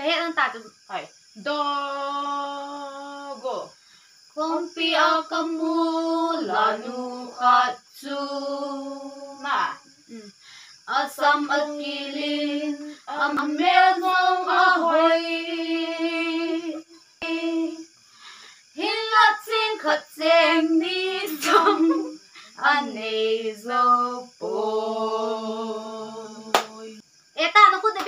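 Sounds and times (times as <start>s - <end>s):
women singing unaccompanied: 0.0s - 3.8s, 4.4s - 18.0s, 18.7s - 28.0s.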